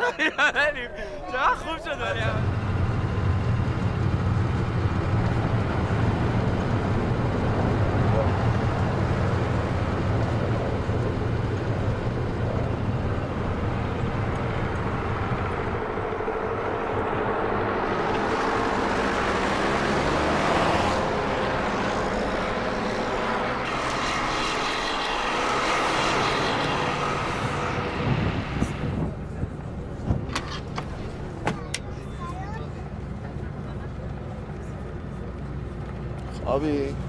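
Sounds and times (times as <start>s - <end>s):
bus engine drone: 0.0s - 37.0s
passing traffic rushing: 0.0s - 37.0s
road and wind noise: 0.0s - 37.0s.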